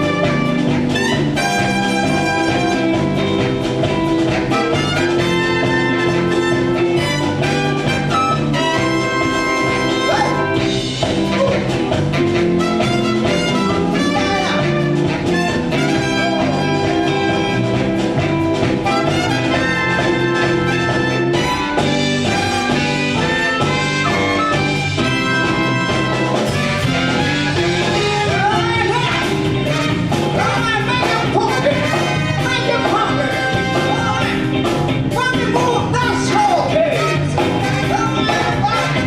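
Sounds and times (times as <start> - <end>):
live band playing: 0.0 - 39.0
wavering lead melody: 0.0 - 39.0.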